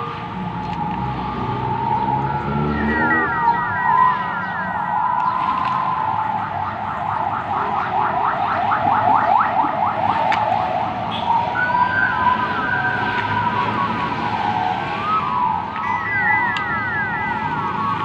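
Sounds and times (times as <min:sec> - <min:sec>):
electronic alarm siren: 0:00.0 - 0:18.0.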